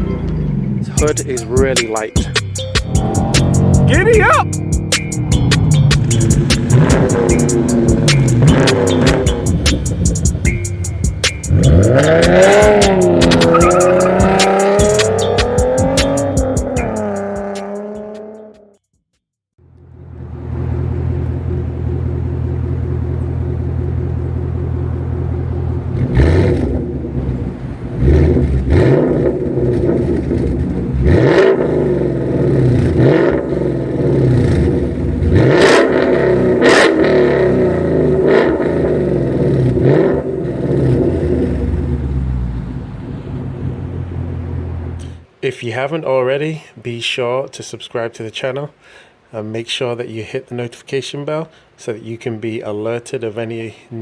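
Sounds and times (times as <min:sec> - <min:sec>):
exhaust cracks: 0:00.0 - 0:17.9, 0:19.6 - 0:45.3
car engine idling and revving: 0:00.0 - 0:18.6, 0:19.6 - 0:45.4.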